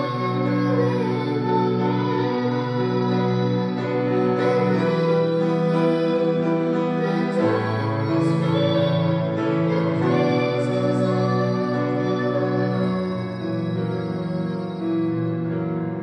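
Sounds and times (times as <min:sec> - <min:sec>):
electric keyboard sustained chords: 0:00.0 - 0:16.0.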